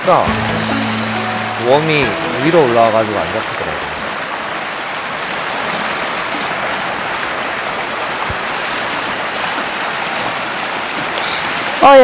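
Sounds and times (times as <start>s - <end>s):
stream flowing over stones: 0.0s - 12.0s.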